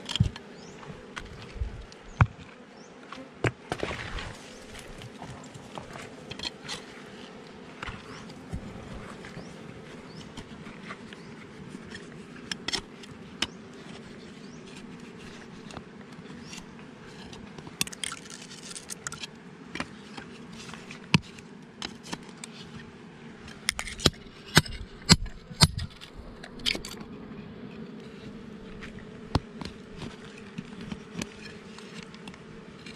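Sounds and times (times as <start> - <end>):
honeybees buzzing: 0.0 - 32.9
knife scraping rock and soil: 3.8 - 9.4, 10.0 - 27.1, 28.0 - 32.9.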